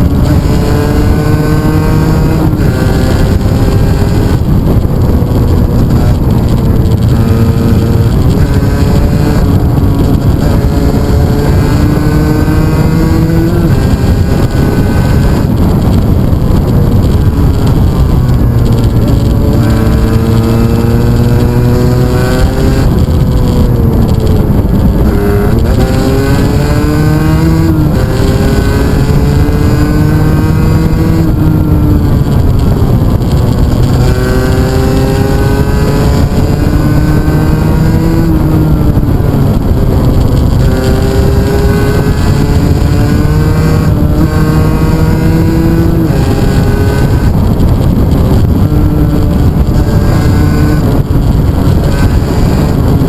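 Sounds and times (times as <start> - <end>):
motorcycle engine revving: 0.0 - 53.0
wind rushing over microphone: 0.0 - 53.0.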